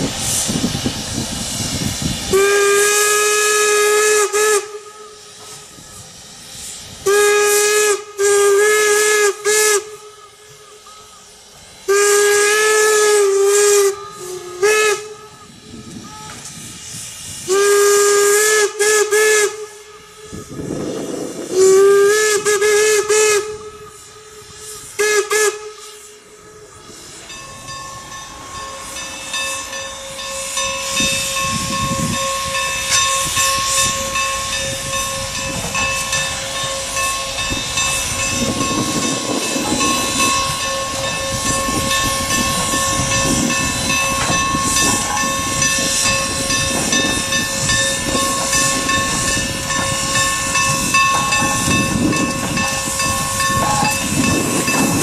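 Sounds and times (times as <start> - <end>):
steam hissing: 0.0 - 55.0
steam locomotive whistle: 0.3 - 55.0.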